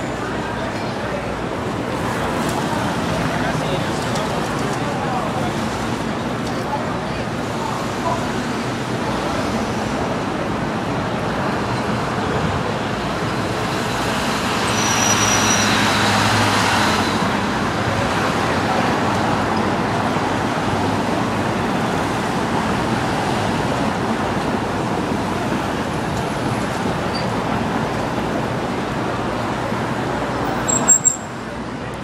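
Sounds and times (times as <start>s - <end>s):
city street traffic: 0.0s - 32.0s.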